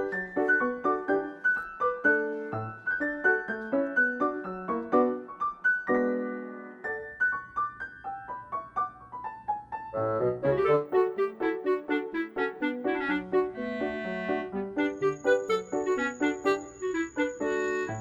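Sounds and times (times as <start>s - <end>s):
bouncy electric piano melody: 0.0s - 18.0s.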